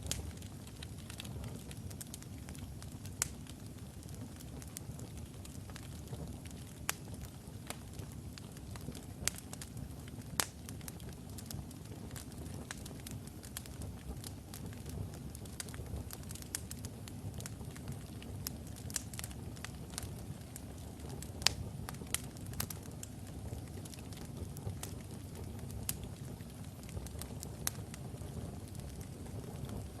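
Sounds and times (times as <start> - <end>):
wood logs burning and crackling: 0.0 - 30.0.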